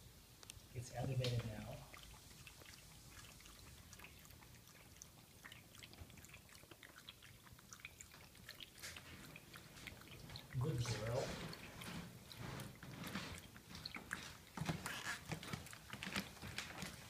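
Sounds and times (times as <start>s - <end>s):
dog lapping water: 1.0s - 17.0s.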